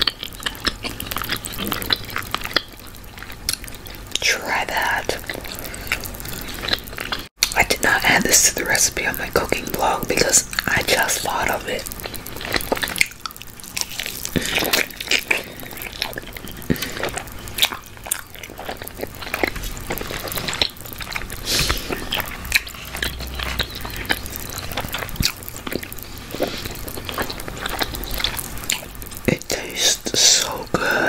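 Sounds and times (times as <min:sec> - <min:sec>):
chewing with wet mouth smacks: 0:00.0 - 0:08.8, 0:09.4 - 0:31.0.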